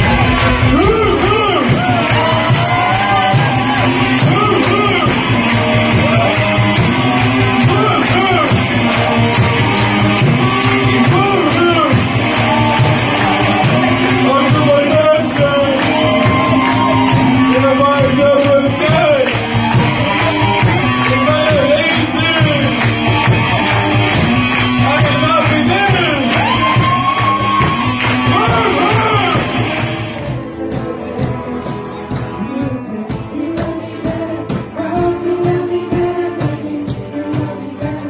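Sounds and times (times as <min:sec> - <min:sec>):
rock music with singing: 0:00.0 - 0:38.0.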